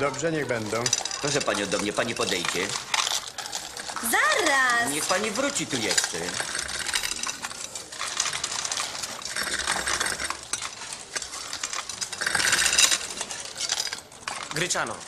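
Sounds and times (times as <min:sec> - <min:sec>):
chain links rattling on a table: 0:00.0 - 0:15.0.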